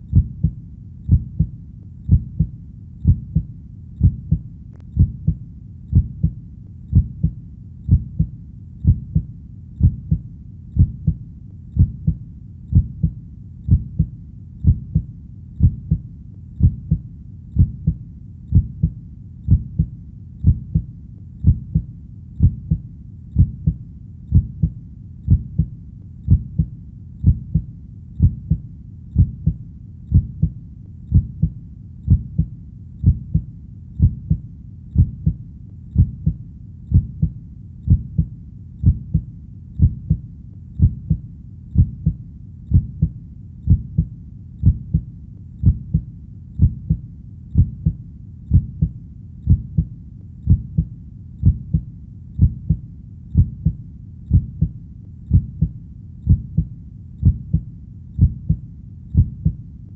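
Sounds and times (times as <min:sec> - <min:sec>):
heartbeat double thump: 0:00.1 - 0:01.5, 0:02.1 - 0:04.4, 0:05.0 - 0:10.2, 0:11.8 - 0:16.0, 0:16.6 - 0:17.0, 0:17.6 - 0:22.8, 0:23.4 - 0:25.7, 0:26.3 - 0:28.6, 0:29.2 - 0:34.4, 0:36.0 - 0:40.2, 0:40.8 - 0:41.2, 0:41.8 - 0:47.0, 0:47.6 - 0:49.9, 0:50.5 - 0:51.8, 0:52.4 - 0:52.8, 0:53.4 - 0:57.6, 0:58.2 - 0:59.6.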